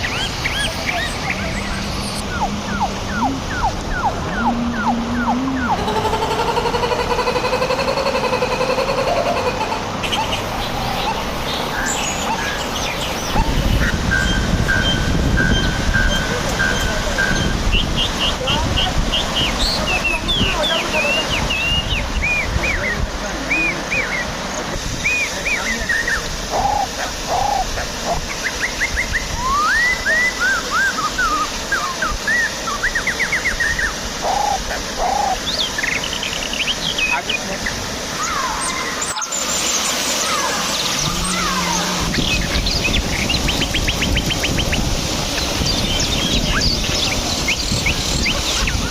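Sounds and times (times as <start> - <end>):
small birds chirping: 0.0 - 48.9
steady rushing noise: 0.0 - 48.9.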